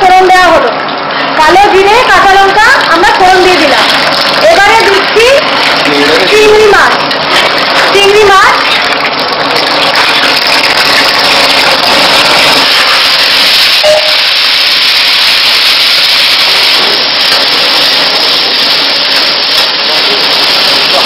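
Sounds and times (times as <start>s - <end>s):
prawns sizzling in hot oil: 0.1s - 21.0s.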